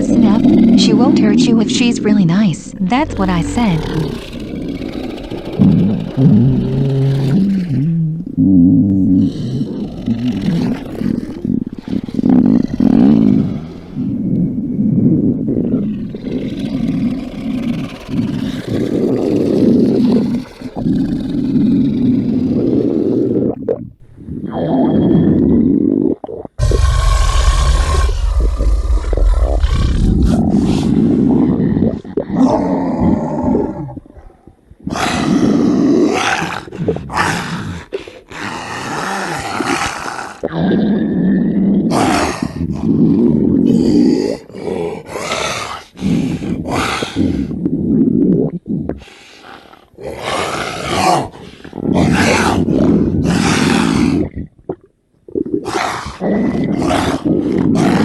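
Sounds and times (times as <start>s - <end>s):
cartoon stomach rumbling: 0.0s - 45.1s, 45.9s - 49.9s, 51.0s - 58.0s.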